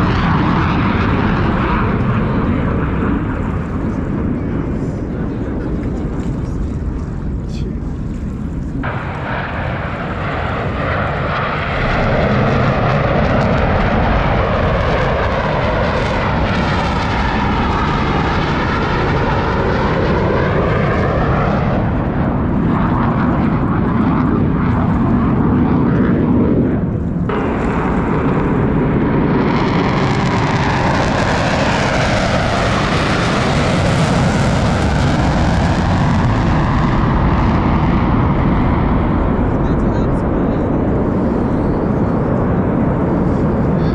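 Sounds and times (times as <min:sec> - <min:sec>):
jets flying past: 0:00.0 - 0:43.9.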